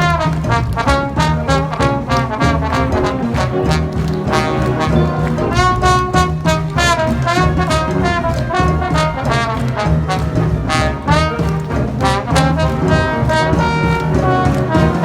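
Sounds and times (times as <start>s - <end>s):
bass and drums beat: 0.0s - 15.0s
brass melody: 0.0s - 15.0s
wind band playing: 0.0s - 15.0s.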